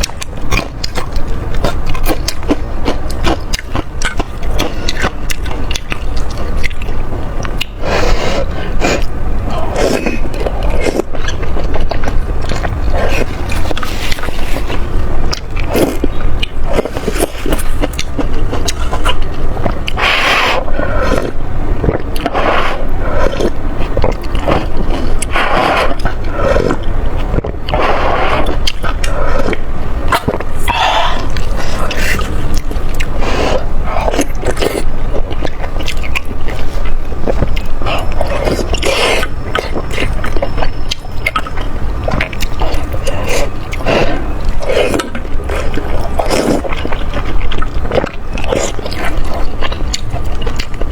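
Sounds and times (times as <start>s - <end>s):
wet chewing: 0.0s - 50.9s.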